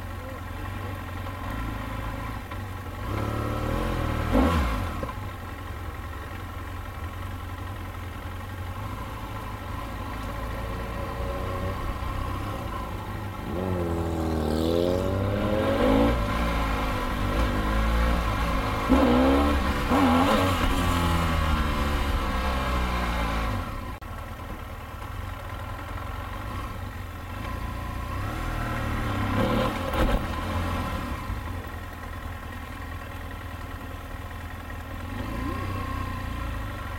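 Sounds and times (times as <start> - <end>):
motorcycle engine revving: 0.2 - 5.5, 8.4 - 24.0, 25.8 - 33.1, 34.6 - 36.9.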